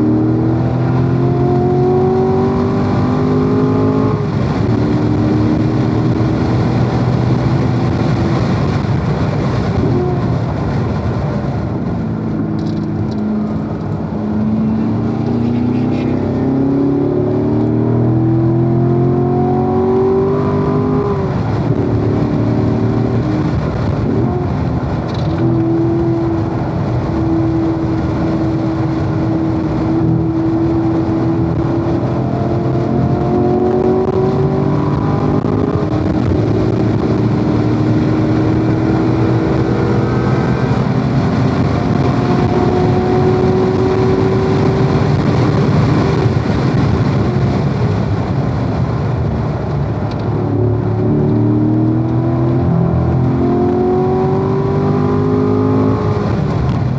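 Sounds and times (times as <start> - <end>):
car engine accelerating: 0.0 - 56.9
wind and tyre noise: 0.0 - 56.9.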